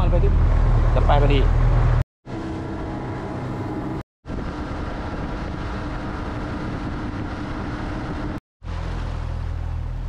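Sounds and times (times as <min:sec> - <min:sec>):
boat engine humming: 0:00.0 - 0:10.0
wind and water rushing: 0:00.0 - 0:10.0.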